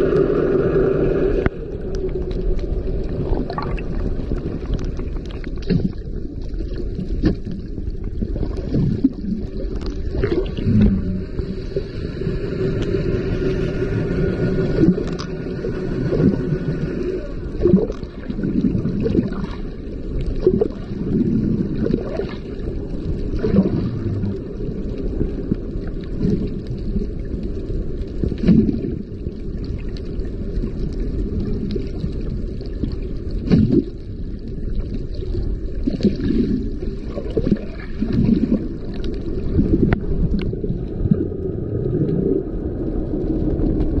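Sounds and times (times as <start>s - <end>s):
low rumble: 0.0s - 44.0s
sea water sloshing: 0.0s - 44.0s.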